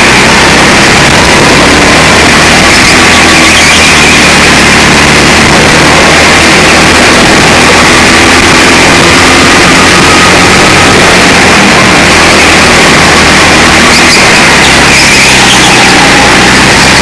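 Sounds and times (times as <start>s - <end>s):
go-kart engine running hard: 0.0s - 17.0s.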